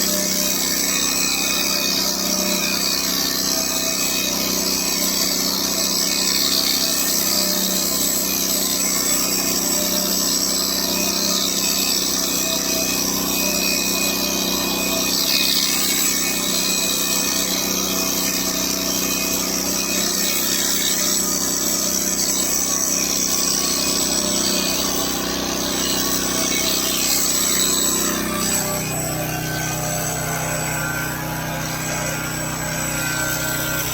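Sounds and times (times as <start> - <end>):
electric hair clippers buzzing: 0.0 - 33.9.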